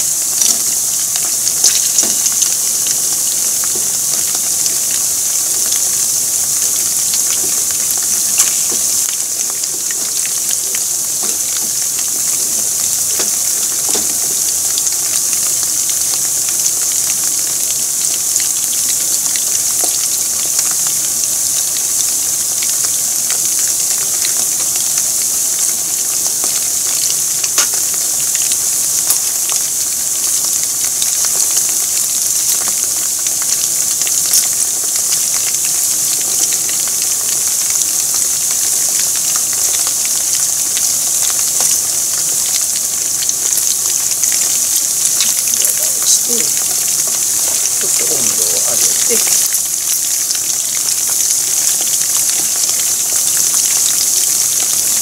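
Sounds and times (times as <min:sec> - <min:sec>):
food deep-frying in hot oil: 0:00.0 - 0:55.0.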